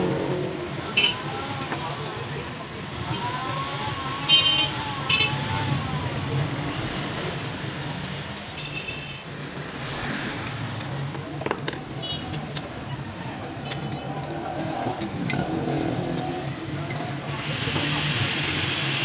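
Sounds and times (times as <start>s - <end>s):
background traffic rumble: 0.0s - 19.0s.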